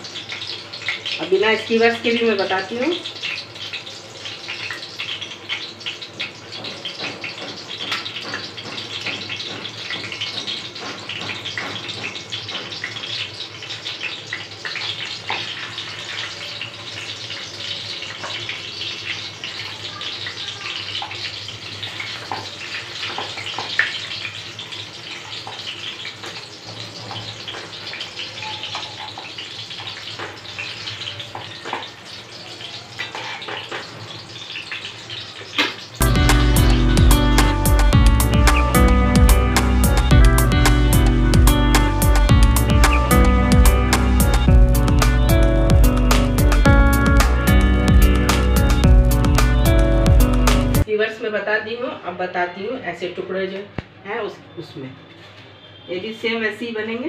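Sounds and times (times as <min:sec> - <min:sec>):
chicken frying in hot oil: 0:00.0 - 0:46.7.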